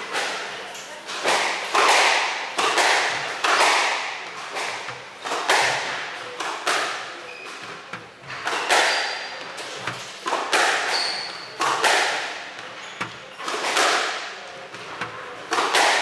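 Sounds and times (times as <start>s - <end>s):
squash ball hits echoing: 0.0s - 16.0s.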